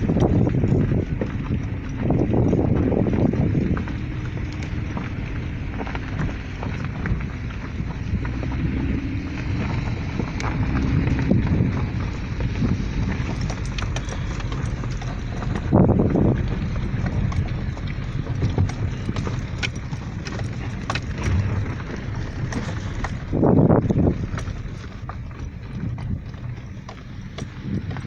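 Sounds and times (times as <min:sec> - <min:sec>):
stones ticking: 0:00.0 - 0:28.0
vehicle jolts: 0:00.0 - 0:28.0
vehicle rumbling on gravel: 0:00.0 - 0:28.0.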